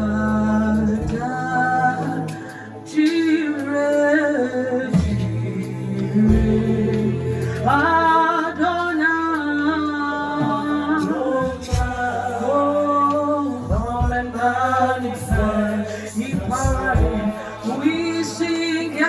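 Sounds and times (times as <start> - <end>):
low sustained accompaniment: 0.0 - 19.0
singing in long held notes: 0.0 - 19.0.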